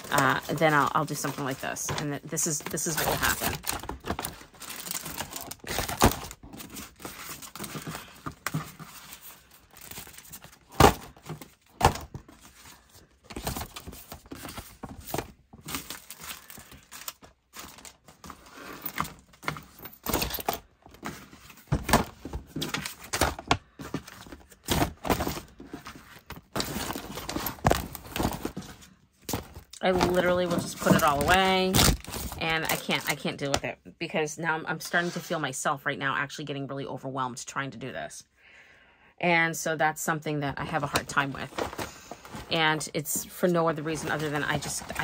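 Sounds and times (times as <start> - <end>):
paper and plastic rustling: 0.0 - 33.4, 40.7 - 45.0.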